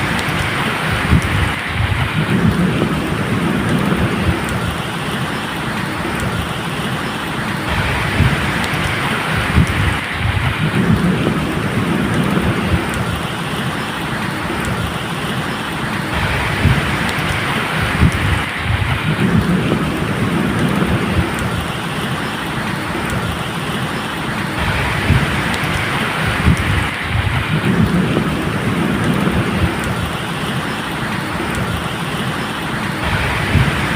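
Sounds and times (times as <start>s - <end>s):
low rolling thunder: 0.0s - 33.9s
medium rain hissing: 0.0s - 33.9s.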